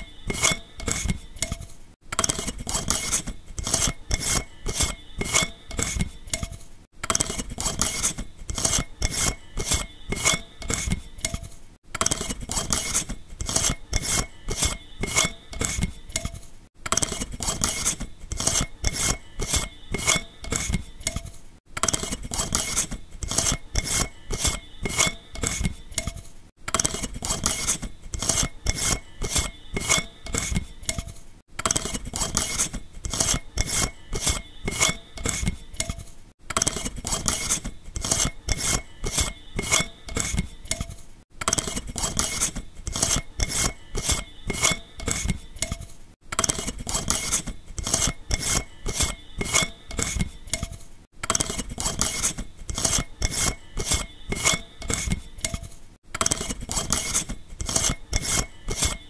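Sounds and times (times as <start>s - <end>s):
light bulb scraping in socket: 0.0s - 59.0s.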